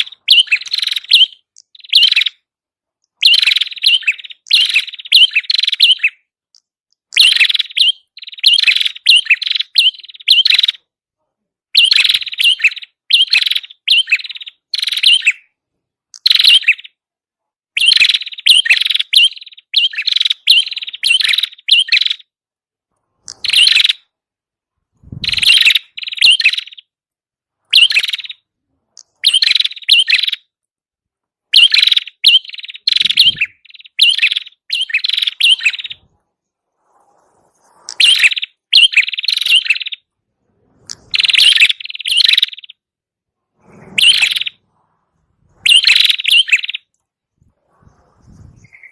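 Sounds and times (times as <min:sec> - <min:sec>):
bird chirping: 0:00.0 - 0:11.0, 0:11.7 - 0:17.1, 0:17.7 - 0:22.4, 0:23.0 - 0:24.2, 0:25.0 - 0:27.0, 0:27.6 - 0:30.6, 0:31.5 - 0:42.9, 0:43.6 - 0:48.9.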